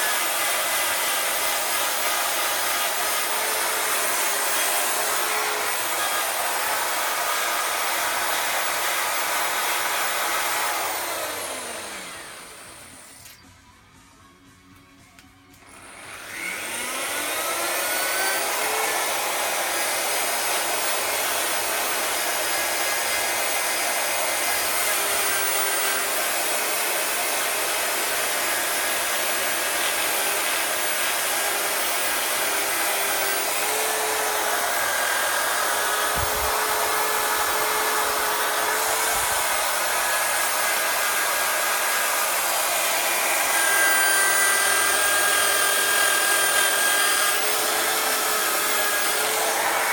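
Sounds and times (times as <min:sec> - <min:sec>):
power tool polishing whine: 0:00.0 - 0:13.5, 0:15.8 - 0:49.9.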